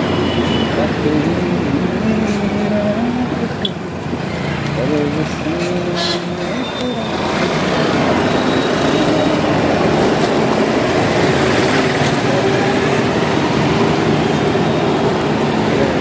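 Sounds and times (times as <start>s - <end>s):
vehicle running noise: 0.0s - 16.0s.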